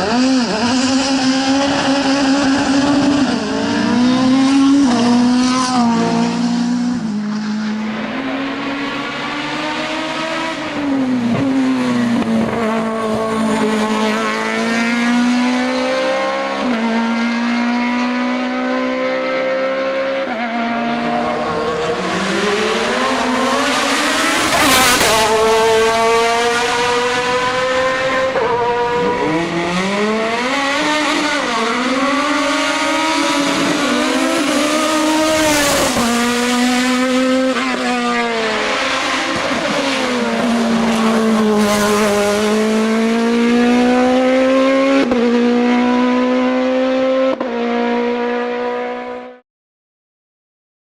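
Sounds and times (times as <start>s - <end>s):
racing car engines at high revs: 0.0s - 49.4s.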